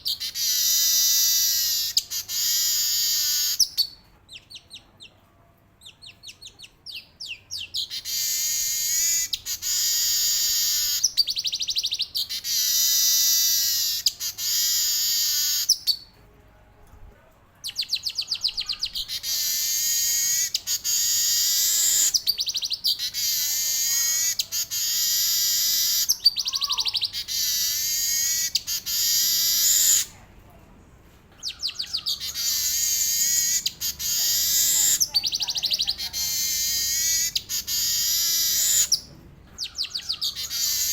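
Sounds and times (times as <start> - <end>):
weaver bird singing: 0.0 - 5.1, 5.8 - 16.1, 17.6 - 30.1, 31.4 - 40.9.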